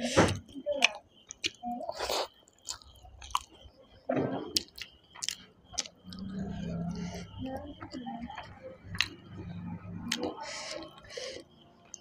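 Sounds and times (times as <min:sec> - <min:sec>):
person chewing food: 0:00.3 - 0:03.7, 0:04.4 - 0:12.0.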